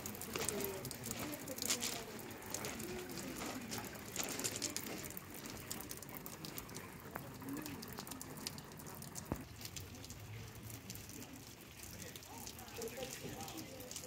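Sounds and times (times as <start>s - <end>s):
water drops trickling through twigs: 0.0s - 14.0s.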